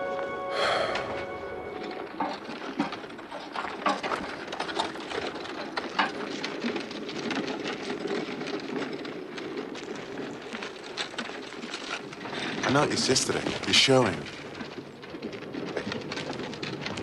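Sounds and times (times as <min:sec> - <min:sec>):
handcart rattling and clattering: 0:00.0 - 0:17.0
steady rumble of wheels: 0:00.0 - 0:17.0.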